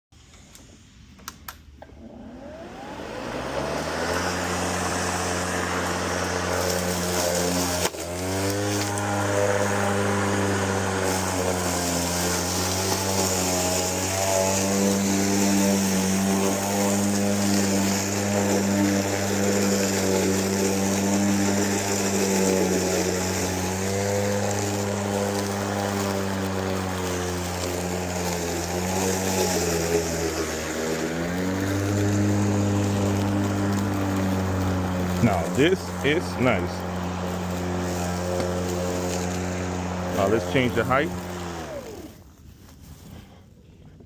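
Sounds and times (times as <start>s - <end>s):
electric lawnmower humming: 1.8s - 42.4s.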